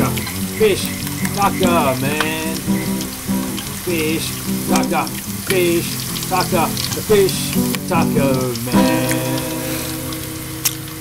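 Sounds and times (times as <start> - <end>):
food frying in oil: 0.0 - 11.0
music with sliding notes: 0.0 - 11.0.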